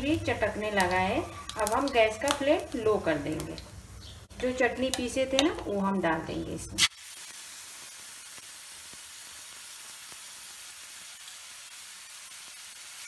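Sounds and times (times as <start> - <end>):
paste sizzling in hot oil: 0.0 - 5.7, 6.7 - 13.0.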